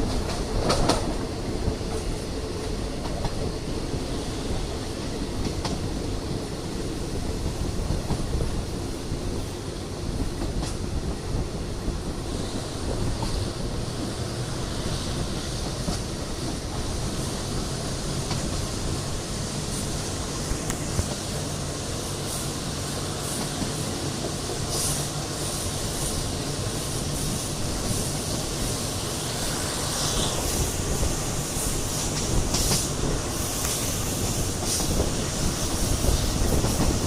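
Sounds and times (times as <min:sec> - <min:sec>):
train rumbling along rails: 0:00.0 - 0:37.0.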